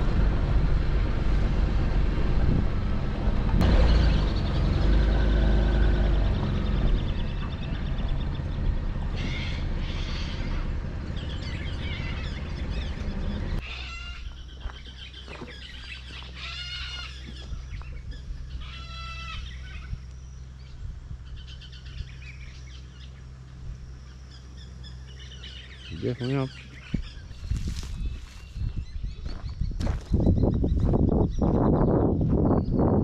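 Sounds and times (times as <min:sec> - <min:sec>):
vehicle engine humming: 0:00.0 - 0:29.4
harsh bird calls: 0:03.6 - 0:33.0.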